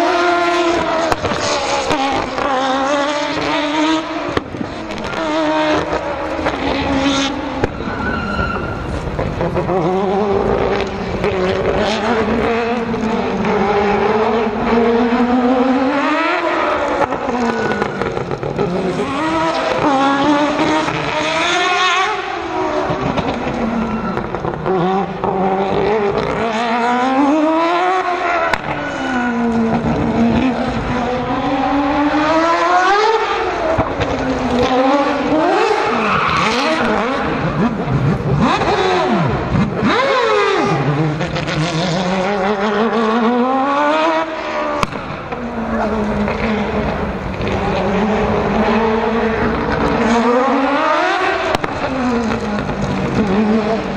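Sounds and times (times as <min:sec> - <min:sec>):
rotary engine revving: 0:00.0 - 0:53.9.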